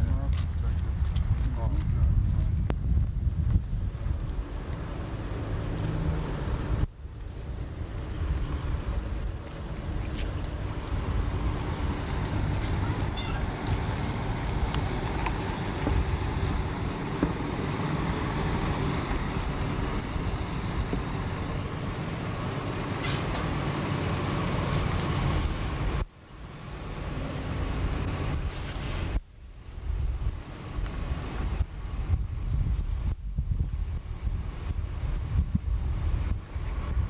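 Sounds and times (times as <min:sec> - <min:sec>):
wind buffeting microphone: 0:00.0 - 0:26.1, 0:26.7 - 0:37.0.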